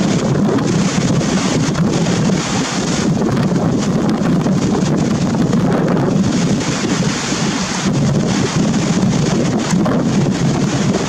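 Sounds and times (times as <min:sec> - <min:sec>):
rough surf rushing: 0:00.0 - 0:11.0
wind buffeting microphone: 0:00.0 - 0:11.0.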